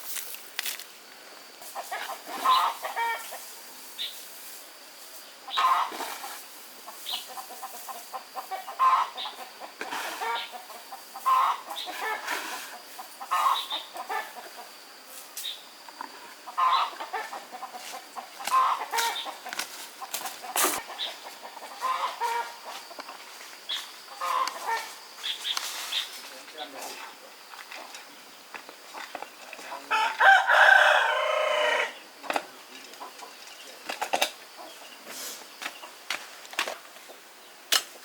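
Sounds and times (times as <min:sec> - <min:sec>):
chickens clucking: 0:01.6 - 0:04.3, 0:05.4 - 0:37.5.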